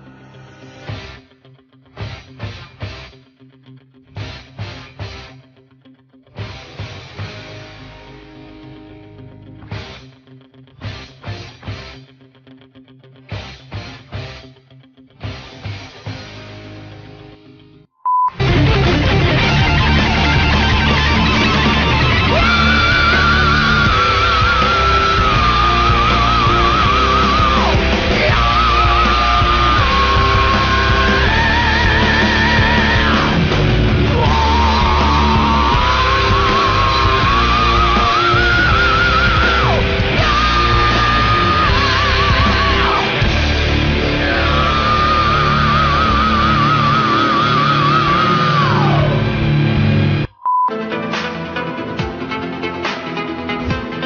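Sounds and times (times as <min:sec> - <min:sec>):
heavy rock music: 0:00.0 - 0:17.8, 0:18.4 - 0:54.0.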